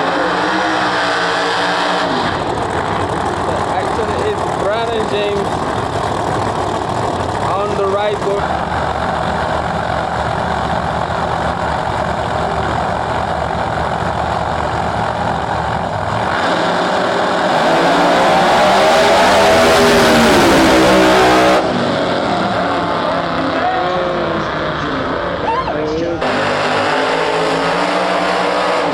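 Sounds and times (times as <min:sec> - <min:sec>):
race car engine revving: 0:00.0 - 0:28.9.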